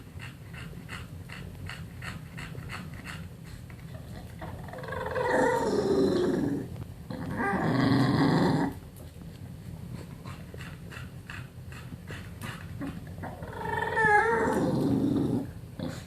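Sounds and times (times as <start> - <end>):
dog making long vocal noises: 0.0 - 8.8, 10.2 - 16.0.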